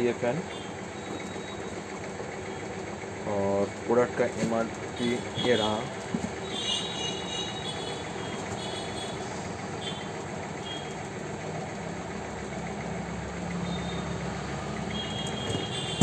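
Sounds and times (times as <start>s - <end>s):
engine rumble: 0.0s - 16.0s
heavy road traffic: 0.0s - 16.0s.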